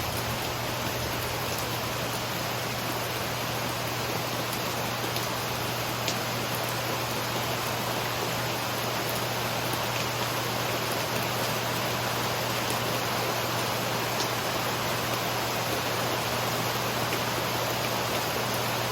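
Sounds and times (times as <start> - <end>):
rain falling: 0.0 - 18.9.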